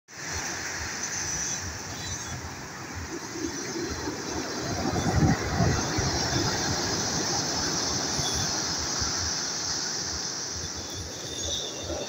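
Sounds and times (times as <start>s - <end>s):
waves washing over pebble beach: 0.2s - 12.0s.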